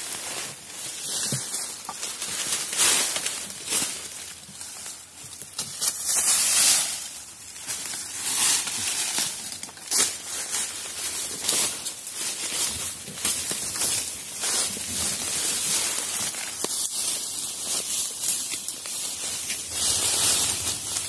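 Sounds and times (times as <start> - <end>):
footsteps crunching dry leaves: 0.0 - 21.0
rustling of stems: 0.0 - 21.0.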